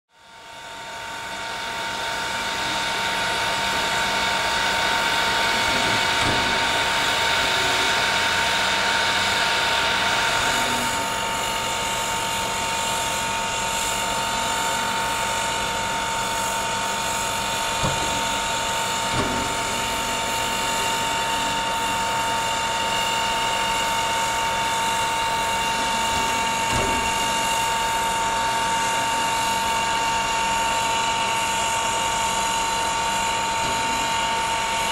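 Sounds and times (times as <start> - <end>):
steam locomotive hissing: 0.4 - 34.9
high steady whine: 0.5 - 34.9.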